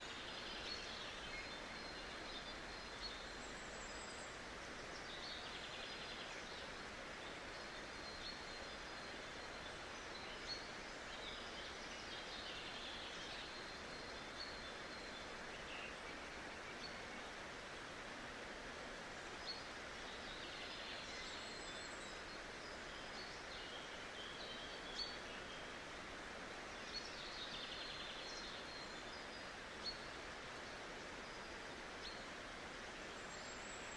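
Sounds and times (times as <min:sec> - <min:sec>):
flowing river water: 0:00.0 - 0:33.9.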